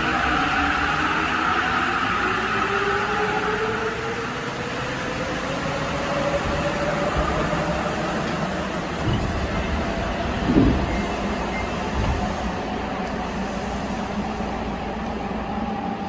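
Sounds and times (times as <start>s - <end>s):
train running through tunnel: 0.0s - 16.0s.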